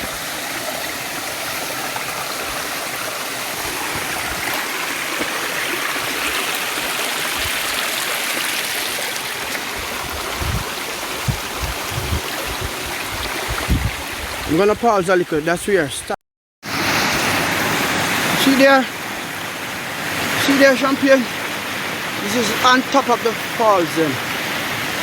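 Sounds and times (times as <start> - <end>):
river water rushing over rocks: 0.0 - 14.5, 16.7 - 25.0.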